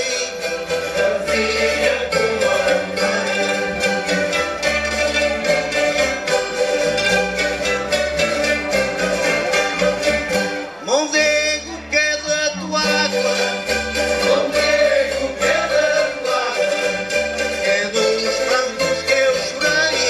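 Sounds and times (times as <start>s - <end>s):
plucked-string folk dance music: 0.0s - 20.0s
violin: 0.0s - 20.0s.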